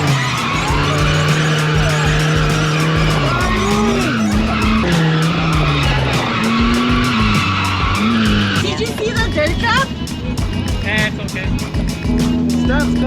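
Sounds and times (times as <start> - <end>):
car engine revving: 0.0 - 13.0
music with fast beat: 0.0 - 13.0
tyres skidding: 0.0 - 13.0.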